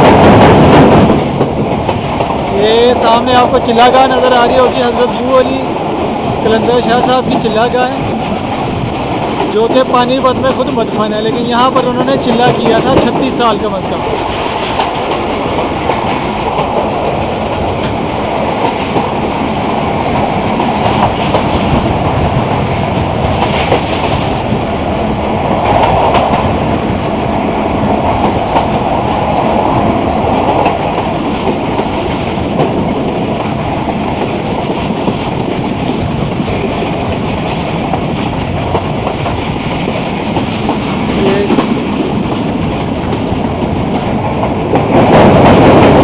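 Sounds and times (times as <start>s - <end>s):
clickety-clack of rail joints: 0.0s - 46.0s
train wheels rumbling on rails: 0.0s - 46.0s.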